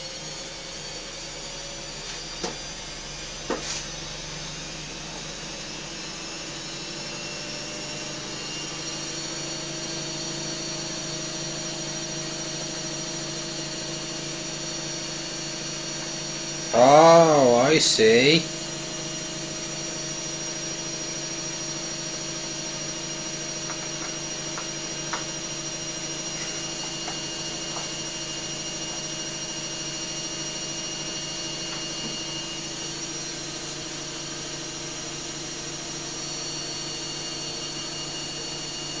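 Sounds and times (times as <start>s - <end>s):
droning hum with high whine: 0.0s - 39.0s.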